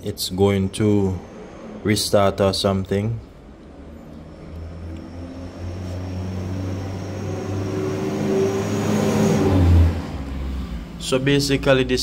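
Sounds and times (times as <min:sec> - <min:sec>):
motor engine droning: 0:00.5 - 0:12.0.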